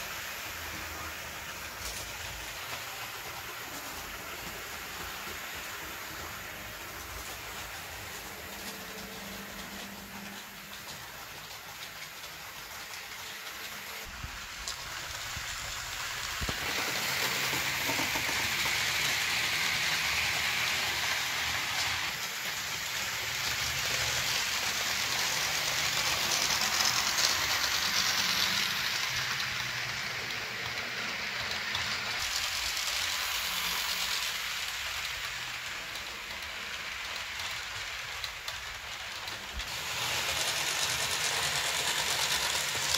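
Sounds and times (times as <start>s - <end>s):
model train whirring on rails: 0.0s - 42.9s.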